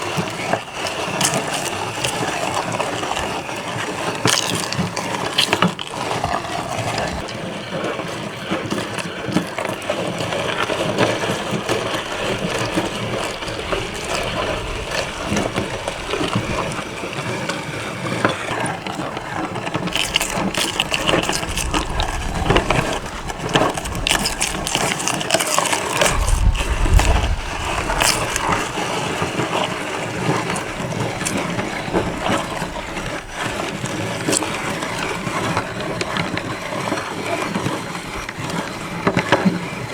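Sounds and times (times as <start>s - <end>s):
meat grinder crunching: 0.0s - 39.9s.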